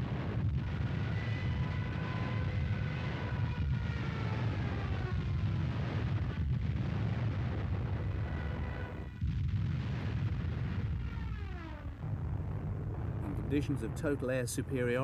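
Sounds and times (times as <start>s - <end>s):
aircraft engine drone: 0.0s - 9.2s, 10.2s - 15.0s
artillery fire and explosions: 0.0s - 15.0s.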